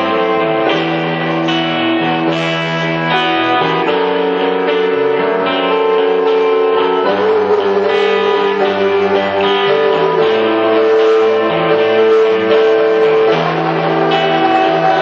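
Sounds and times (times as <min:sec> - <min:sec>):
keyboard playing sustained chords: 0:00.0 - 0:15.0.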